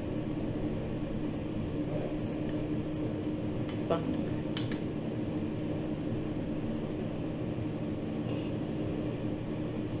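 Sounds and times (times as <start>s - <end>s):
motor or fan humming: 0.0s - 10.0s.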